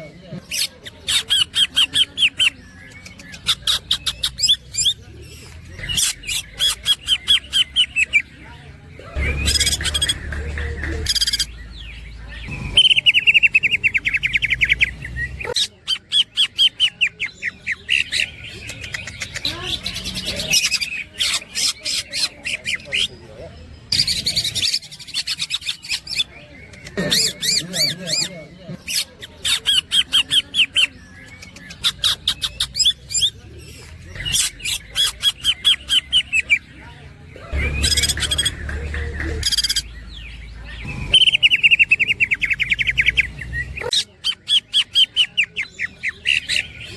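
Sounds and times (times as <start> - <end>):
high bird chattering: 0.0 - 23.3, 23.9 - 46.9.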